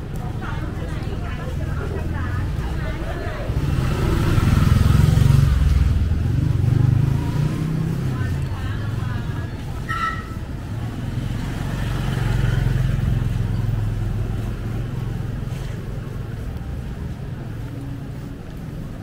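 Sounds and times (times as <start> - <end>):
vehicle engine passing: 2.1 - 19.0.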